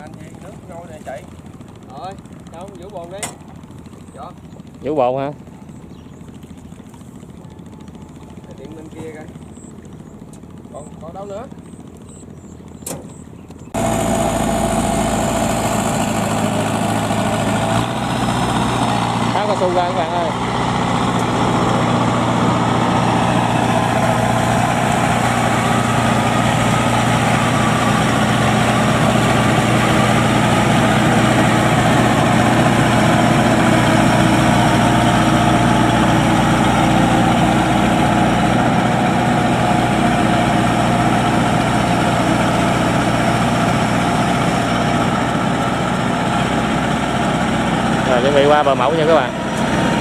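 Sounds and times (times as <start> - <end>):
combine harvester engine running: 0.0 - 50.0.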